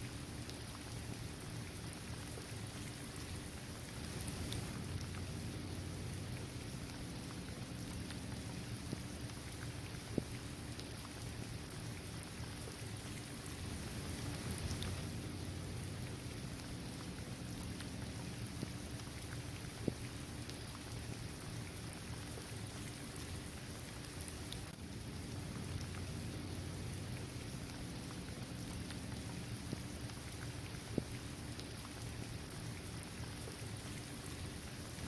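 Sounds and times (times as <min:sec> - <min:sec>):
rain falling on pavement: 0:00.1 - 0:35.0.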